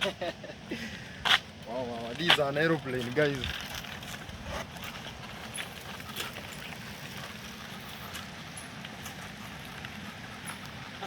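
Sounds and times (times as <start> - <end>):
bicycle rattles and clicks: 1.2 - 11.0.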